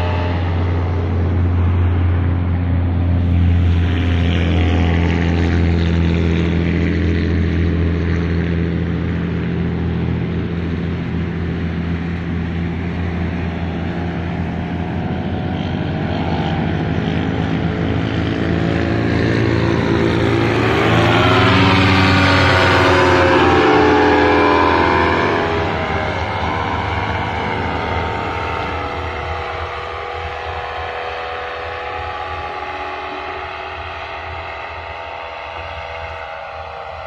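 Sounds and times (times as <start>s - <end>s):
paramotor engine droning: 0.0s - 37.0s.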